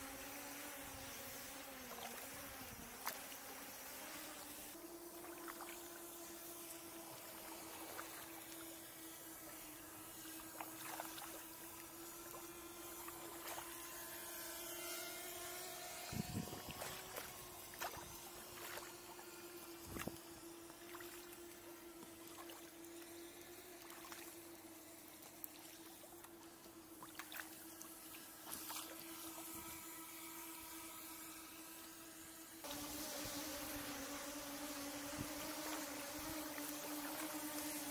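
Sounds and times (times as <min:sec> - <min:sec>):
drone propellers buzzing: 0:00.0 - 0:22.0, 0:27.5 - 0:37.9.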